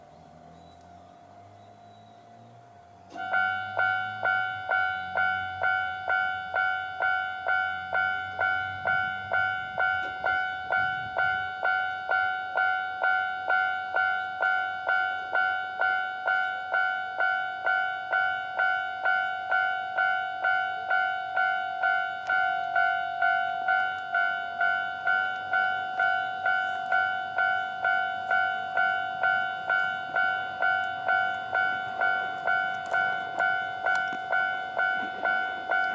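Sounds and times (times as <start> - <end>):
level-crossing alarm bell: 3.1 - 35.9.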